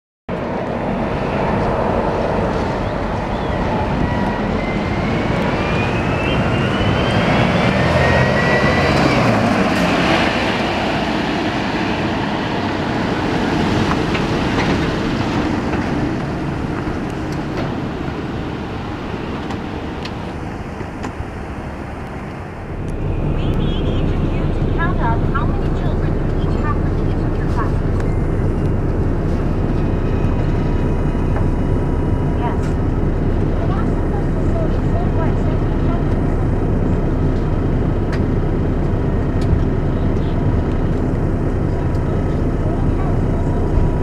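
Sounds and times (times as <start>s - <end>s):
coach diesel engine accelerating: 0.3s - 44.0s.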